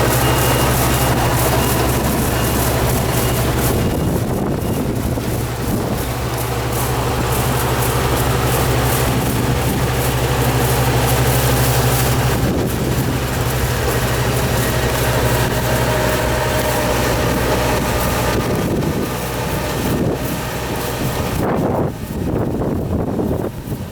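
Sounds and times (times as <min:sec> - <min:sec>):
combine harvester running: 0:00.0 - 0:23.9.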